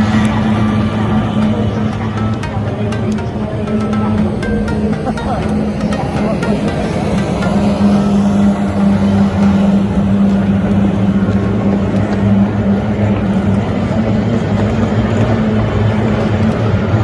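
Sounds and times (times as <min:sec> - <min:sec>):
noisy rush: 0:00.0 - 0:17.0
racing boat engines droning: 0:00.0 - 0:17.0.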